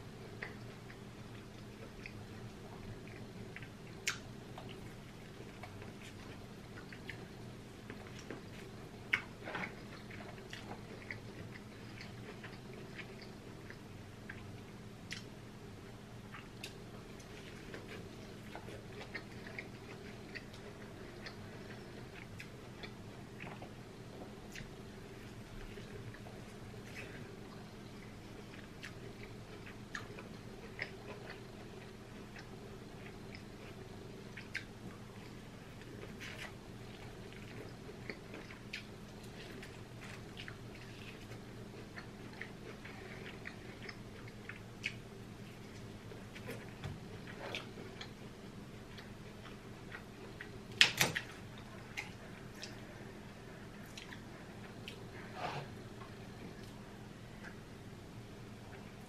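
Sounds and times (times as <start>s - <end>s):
steady low hum: 0.0s - 59.0s
person chewing with wet smacks: 0.3s - 15.4s, 16.2s - 53.0s, 53.7s - 55.3s, 56.0s - 57.7s.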